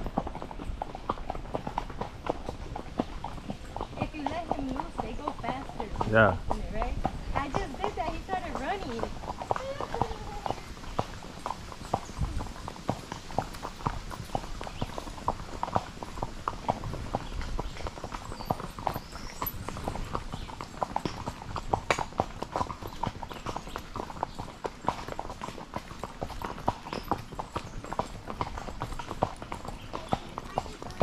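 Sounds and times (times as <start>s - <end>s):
horse hooves on dirt: 0.0s - 31.0s.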